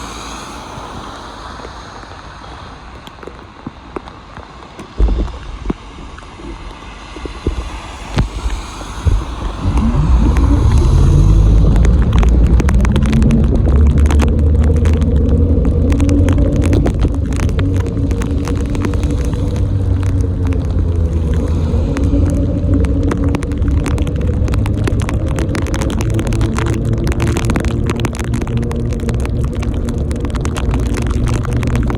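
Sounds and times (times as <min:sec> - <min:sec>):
road noise: 0:00.0 - 0:31.9
wind on microphone: 0:04.8 - 0:31.9.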